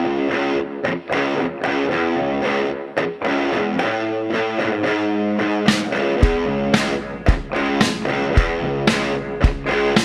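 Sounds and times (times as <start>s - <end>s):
electric guitar instrumental with beat: 0.0s - 10.0s.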